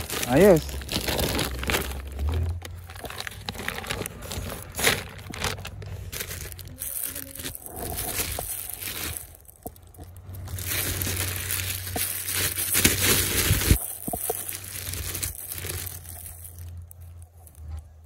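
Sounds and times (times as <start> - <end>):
wrapper crinkling: 0.0 - 18.0.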